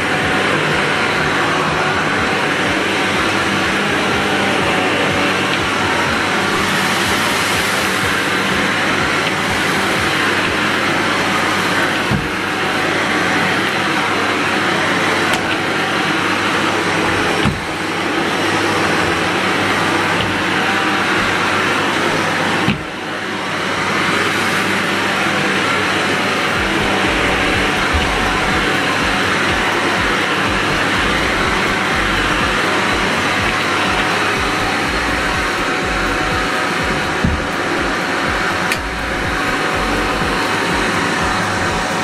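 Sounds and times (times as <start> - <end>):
vacuum cleaner running on carpet: 0.0 - 42.0.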